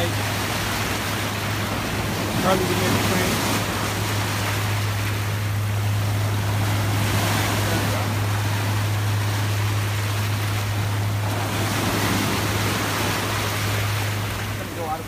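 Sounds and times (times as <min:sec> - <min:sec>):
ocean surf breaking: 0:00.0 - 0:15.0
steady low hum: 0:00.0 - 0:15.0.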